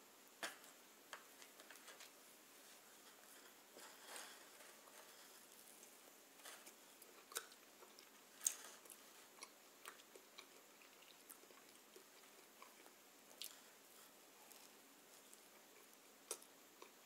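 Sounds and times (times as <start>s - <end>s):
baguette crunching when chewed: 3.0s - 17.0s.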